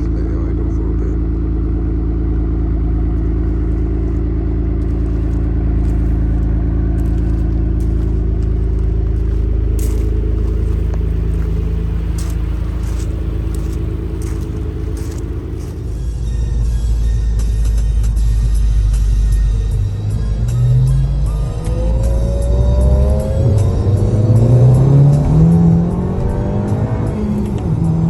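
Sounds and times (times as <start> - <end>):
car engine rumbling: 0.0 - 28.0.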